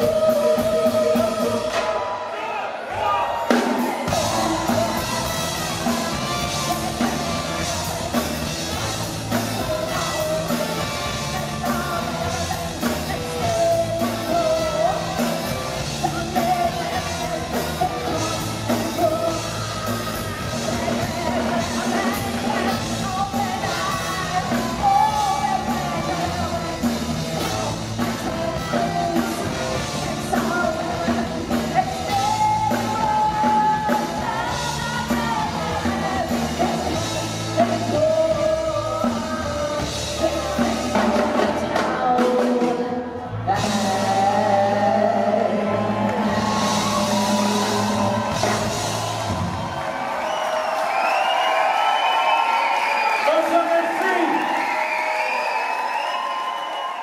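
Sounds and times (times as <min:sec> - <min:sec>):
woman singing: 0:00.0 - 0:02.0, 0:04.0 - 0:49.0
live band with horns: 0:00.0 - 0:57.0.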